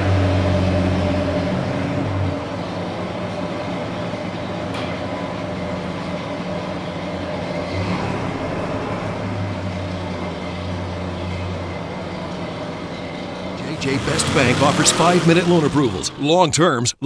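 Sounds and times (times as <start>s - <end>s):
truck engine droning: 0.0s - 17.0s.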